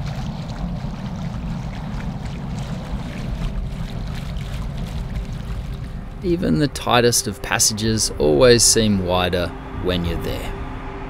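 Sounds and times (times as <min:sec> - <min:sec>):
steady low rumble: 0:00.0 - 0:11.0
water rushing along boat hulls: 0:00.0 - 0:11.0.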